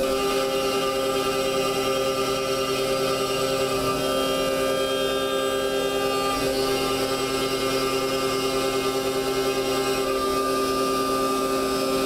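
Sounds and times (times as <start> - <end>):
milling machine whine: 0.0 - 12.0.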